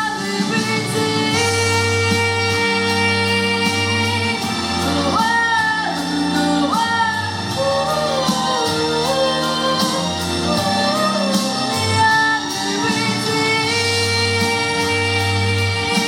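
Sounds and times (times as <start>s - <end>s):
person singing: 0.0s - 16.0s
sustained instrumental backing: 0.0s - 16.0s.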